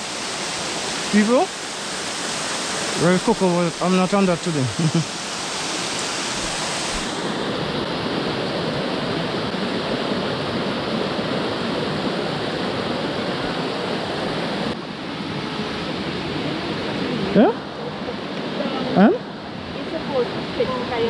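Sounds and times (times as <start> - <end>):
water rushing in stream: 0.0 - 21.0.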